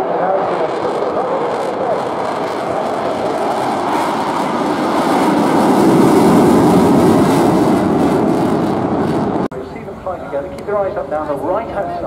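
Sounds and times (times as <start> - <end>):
jet engines in afterburner: 0.0 - 12.0.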